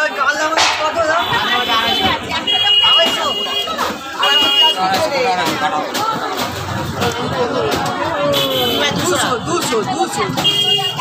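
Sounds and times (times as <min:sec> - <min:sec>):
voices talking: 0:00.0 - 0:11.0.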